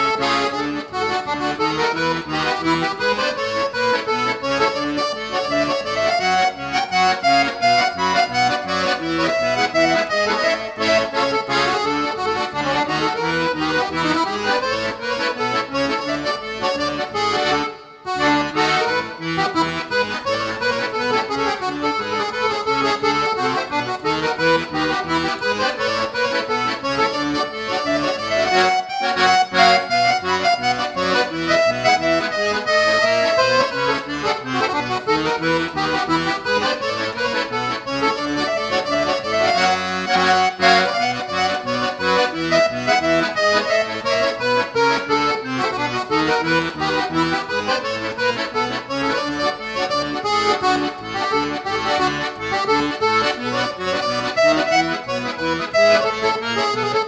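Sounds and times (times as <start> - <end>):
piano accordion playing: 0.0 - 57.0.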